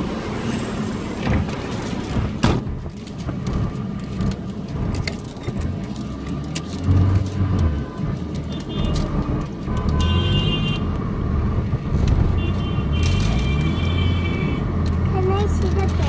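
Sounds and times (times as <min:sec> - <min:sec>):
traffic engine and road rumble: 0:00.0 - 0:16.0.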